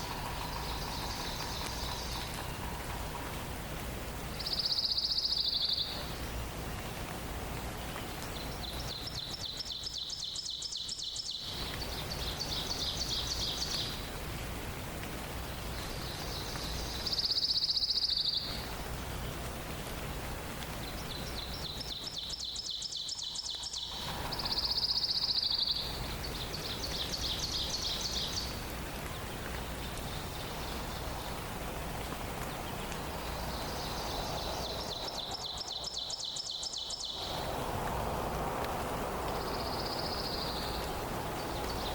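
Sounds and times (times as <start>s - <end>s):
steady background noise: 0.0s - 10.1s, 10.9s - 41.9s.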